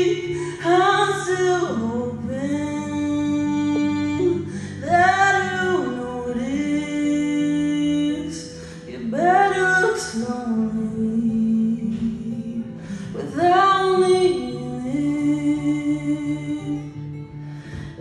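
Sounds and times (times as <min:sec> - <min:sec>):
strummed acoustic guitar: 0:00.0 - 0:18.0
woman singing: 0:00.0 - 0:18.0.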